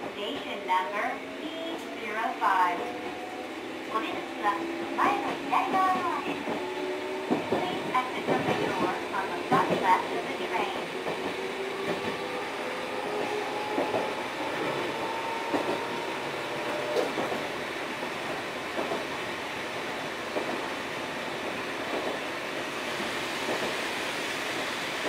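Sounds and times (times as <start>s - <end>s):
train rolling rumble: 0.0s - 25.0s.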